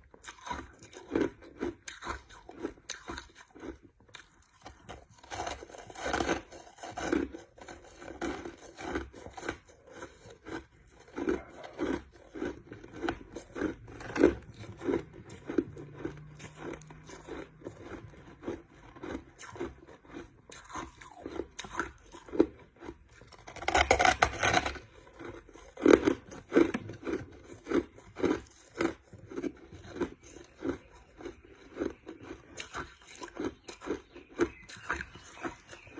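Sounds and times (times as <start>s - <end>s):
ice being chewed: 0.0s - 35.9s.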